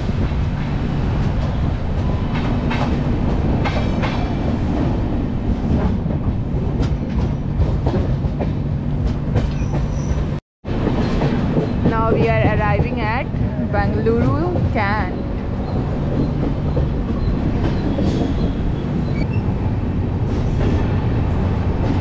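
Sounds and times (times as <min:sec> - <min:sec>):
train rumble and hum: 0:00.0 - 0:22.0
wheels clacking over rails: 0:00.1 - 0:22.0.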